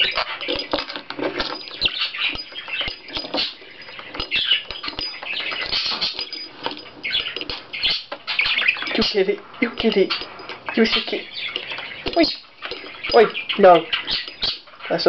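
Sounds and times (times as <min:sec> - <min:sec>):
budgie chattering: 0:00.0 - 0:15.0.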